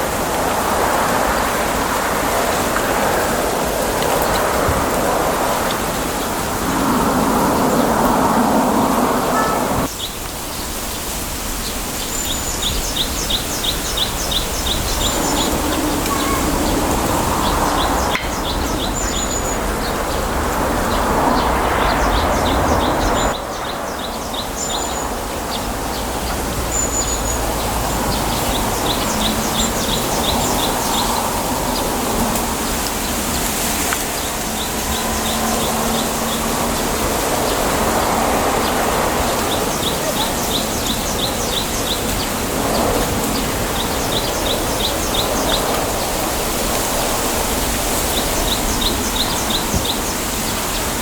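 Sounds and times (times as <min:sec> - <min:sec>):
wind through bamboo leaves: 0:00.0 - 0:51.0
small birds chirping: 0:06.0 - 0:51.0.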